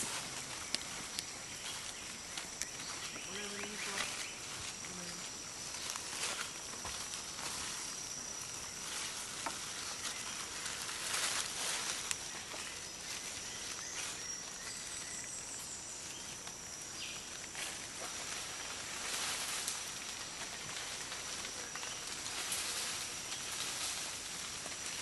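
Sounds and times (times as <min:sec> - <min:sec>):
high-pitched insect drone: 0:00.0 - 0:24.2
dry leaves rustling and crackling: 0:00.0 - 0:25.0.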